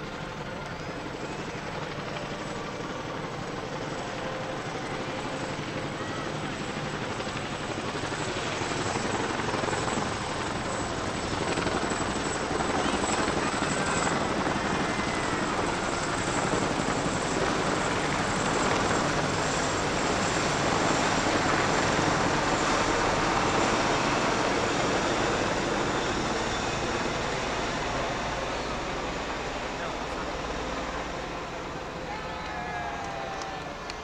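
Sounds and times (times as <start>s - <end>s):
helicopter rotor and engine noise: 0.0s - 34.0s.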